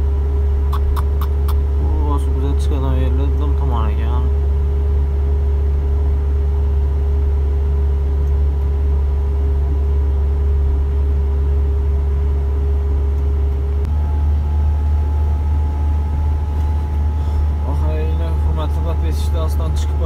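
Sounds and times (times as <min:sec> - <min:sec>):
diesel truck engine drone: 0:00.0 - 0:20.0
faint steady hum: 0:00.0 - 0:20.0.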